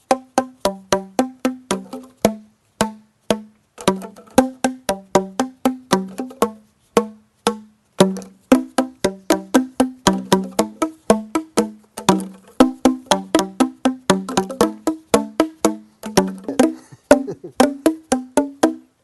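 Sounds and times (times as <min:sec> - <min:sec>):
plastic tubes struck melodically: 0:00.0 - 0:19.0.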